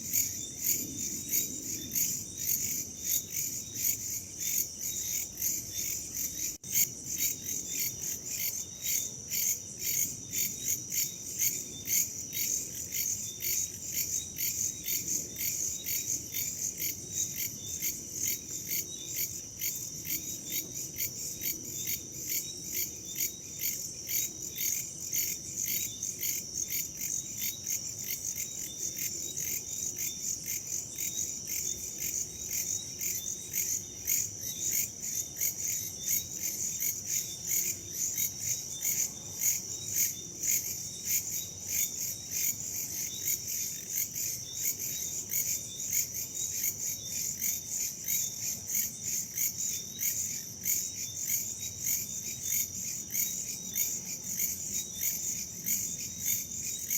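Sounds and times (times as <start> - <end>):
crickets and insects chirping: 0.0 - 56.9.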